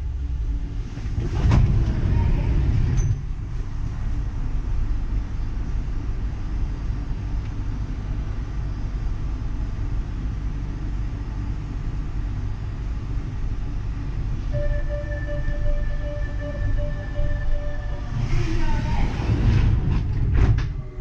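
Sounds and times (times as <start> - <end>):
light rail train rumbling: 0.0 - 21.0
train drive whine: 0.0 - 21.0.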